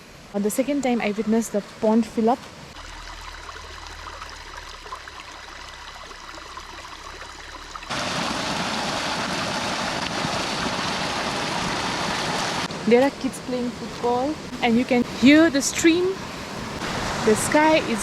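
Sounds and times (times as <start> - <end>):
stream water rushing: 1.0 - 18.0.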